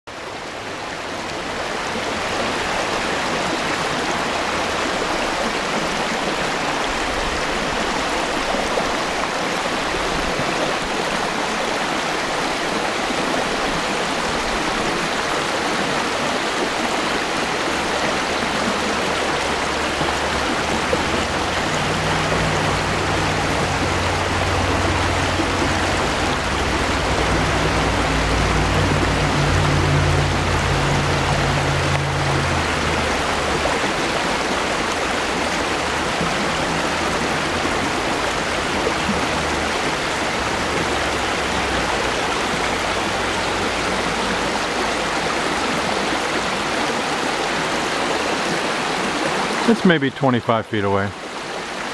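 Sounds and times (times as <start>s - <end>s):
stream rushing over rocks: 0.1s - 51.9s.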